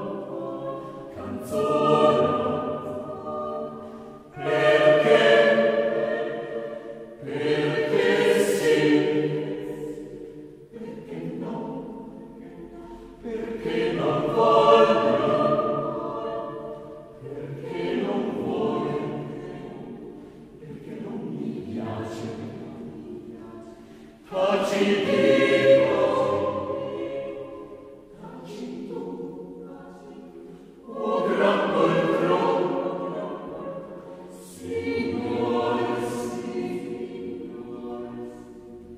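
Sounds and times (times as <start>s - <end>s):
choral singing: 0.0s - 38.9s.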